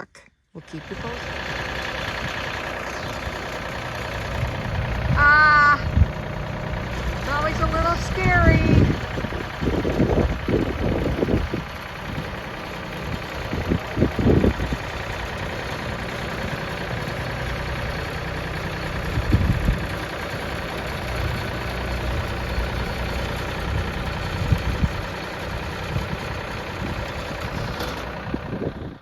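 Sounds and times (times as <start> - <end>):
vehicle engine idling: 0.6 - 29.0.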